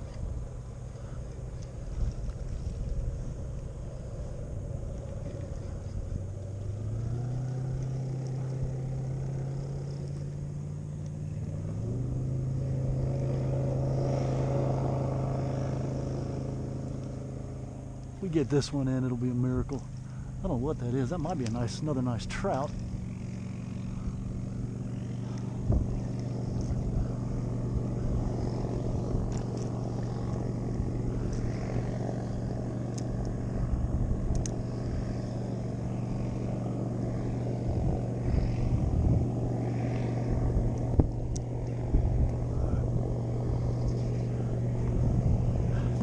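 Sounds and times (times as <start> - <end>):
small motor humming: 0.0 - 18.2, 19.7 - 46.0.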